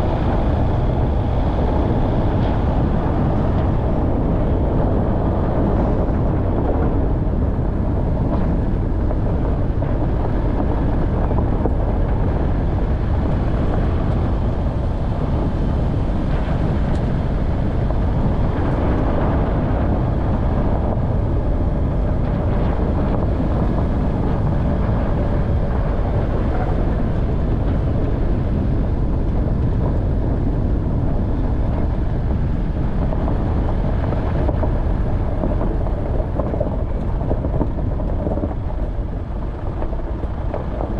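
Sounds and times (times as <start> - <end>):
tyres rumbling on rough track: 0.0 - 40.9.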